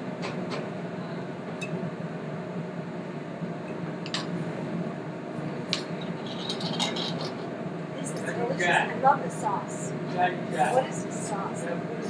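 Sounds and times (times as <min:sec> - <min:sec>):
busy kitchen hum: 0:00.0 - 0:12.0.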